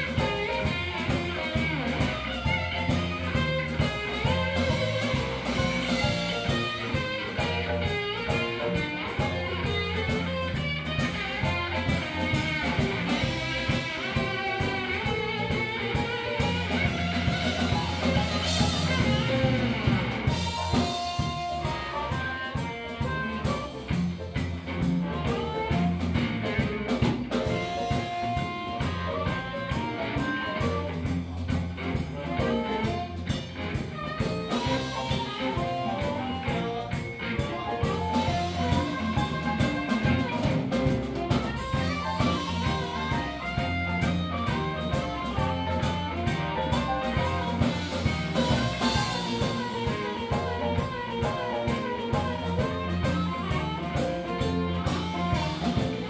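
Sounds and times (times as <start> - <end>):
harmonica: 0.0 - 24.1, 32.2 - 56.0
drum kit beat: 0.0 - 56.0
electric bass: 0.0 - 56.0
electric guitar: 0.0 - 56.0.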